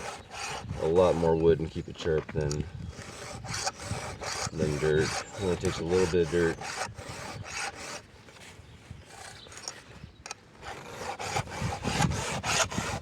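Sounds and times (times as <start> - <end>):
file rasping on chainsaw chain: 0.0 - 8.0, 9.1 - 9.8, 10.6 - 13.0.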